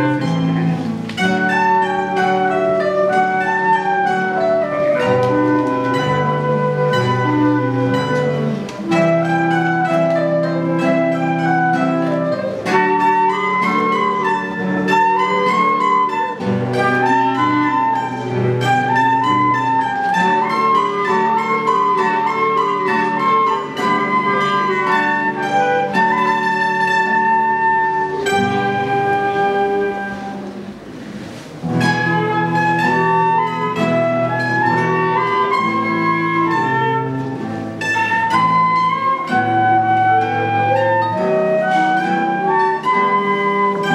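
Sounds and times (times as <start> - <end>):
flute melody: 0.0 - 43.9
plucked guitar and mandolin: 0.0 - 43.9.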